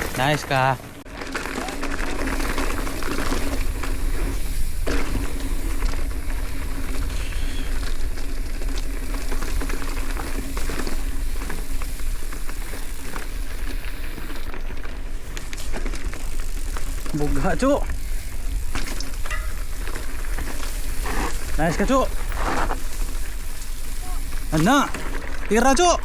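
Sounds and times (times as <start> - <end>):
bicycle tyres on dirt trail: 0.0 - 26.0
small rattles and ticks: 0.2 - 26.0
wind rumbling on microphone: 1.7 - 25.6.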